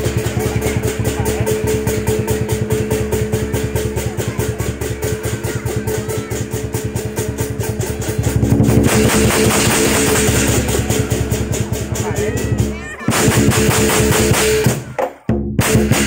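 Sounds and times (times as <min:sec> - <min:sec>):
drum and cymbals beating: 0:00.0 - 0:16.0.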